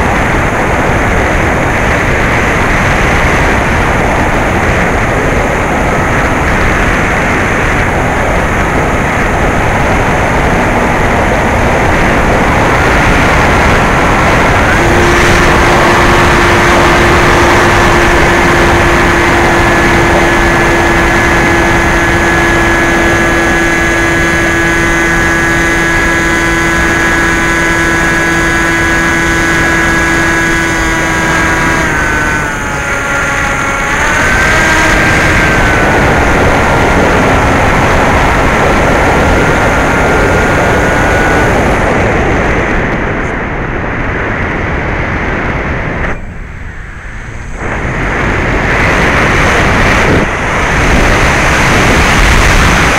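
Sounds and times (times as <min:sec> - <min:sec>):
electric motor whine: 0:00.0 - 0:52.9
wind rush on microphone: 0:00.0 - 0:52.9.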